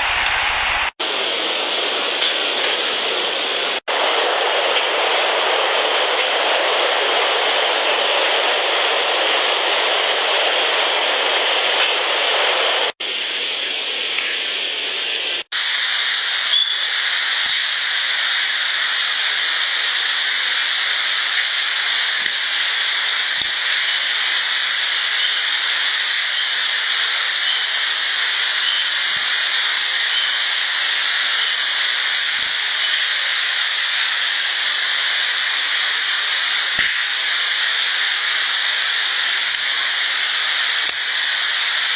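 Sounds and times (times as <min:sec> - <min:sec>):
loud steady hiss: 0:00.0 - 0:41.9.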